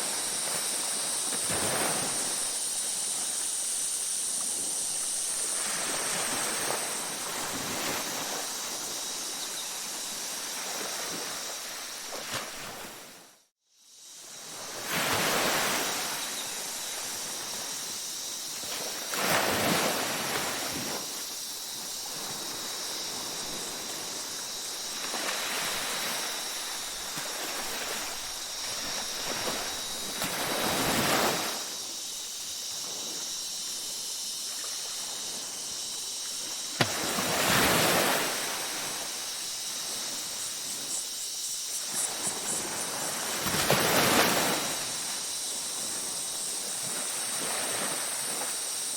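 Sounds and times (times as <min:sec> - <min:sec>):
ocean waves breaking on beach: 0:00.0 - 0:13.3, 0:14.2 - 0:32.0, 0:32.7 - 0:41.0, 0:41.8 - 0:48.9
night insects droning: 0:00.0 - 0:48.9.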